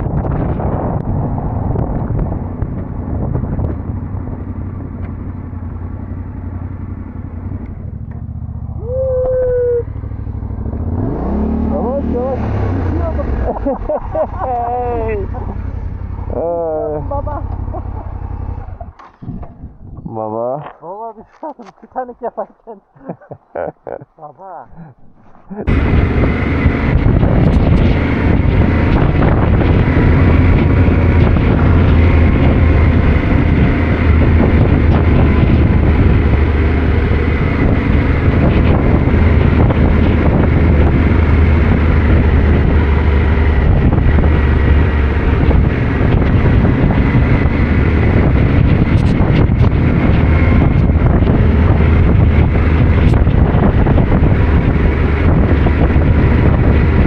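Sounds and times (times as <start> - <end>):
motorcycle engine running: 0.0 - 20.0, 25.6 - 57.0
wind buffeting microphone: 0.0 - 20.5, 24.8 - 57.0.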